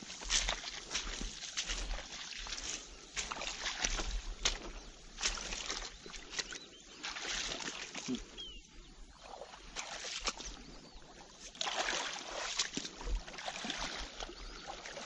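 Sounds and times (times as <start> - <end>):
footsteps splashing through water: 0.0 - 15.0.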